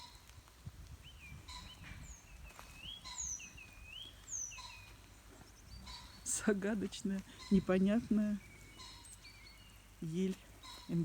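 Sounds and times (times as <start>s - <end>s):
birds singing whistled notes: 1.0s - 6.7s, 7.3s - 11.0s.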